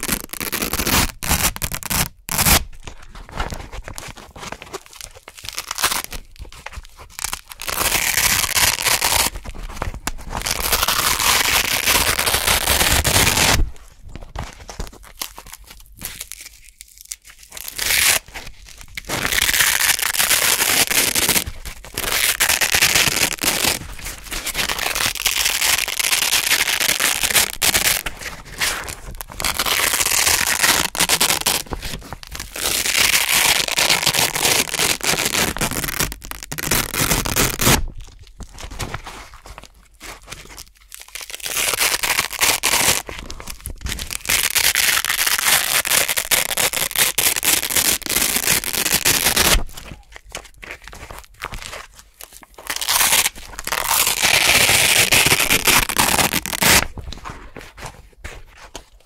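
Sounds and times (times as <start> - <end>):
velcro ripping apart: 0.0 - 3.0, 3.6 - 13.7, 14.8 - 37.9, 40.5 - 50.1, 50.9 - 57.0.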